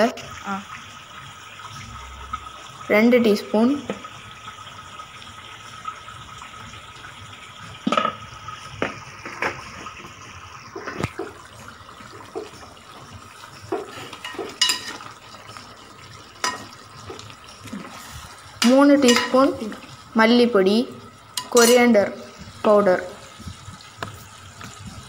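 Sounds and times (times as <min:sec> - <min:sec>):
chicken sizzling in a pot: 0:00.0 - 0:25.0.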